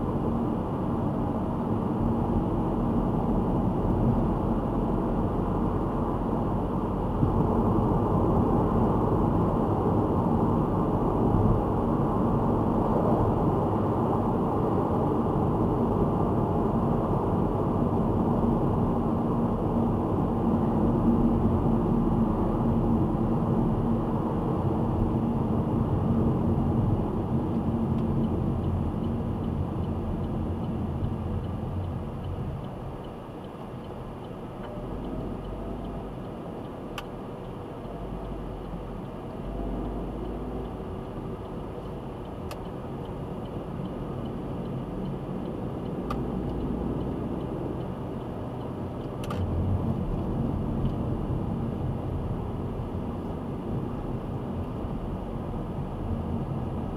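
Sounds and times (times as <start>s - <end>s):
car road and engine noise: 0.0s - 56.9s.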